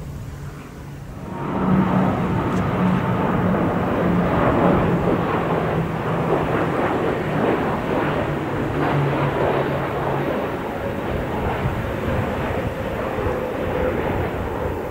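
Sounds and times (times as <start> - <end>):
jet airliners roaring past: 0.0 - 14.9.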